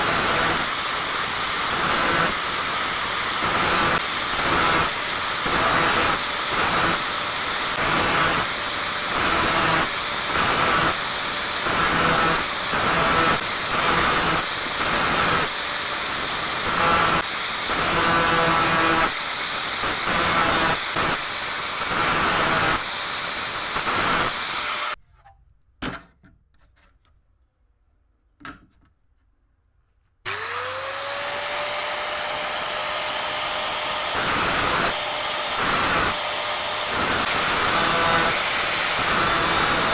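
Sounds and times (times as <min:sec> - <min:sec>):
angle grinder grinding saw teeth: 0:00.0 - 0:25.0, 0:30.3 - 0:39.9
grinder motor whining: 0:00.0 - 0:25.0, 0:30.3 - 0:39.9.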